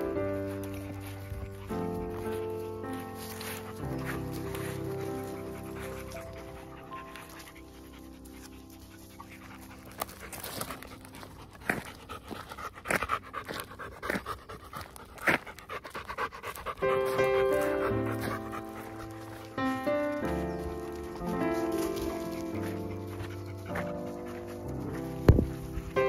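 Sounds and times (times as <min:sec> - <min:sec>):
soft background music: 0:00.0 - 0:15.6, 0:16.4 - 0:26.0
dog panting: 0:00.0 - 0:26.0.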